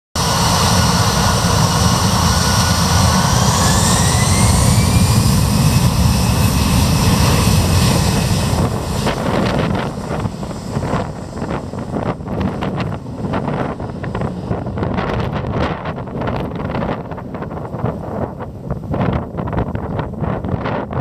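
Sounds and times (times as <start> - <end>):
jet engines rumbling and whining: 0.2 - 21.0
wind buffeting microphone: 0.2 - 21.0.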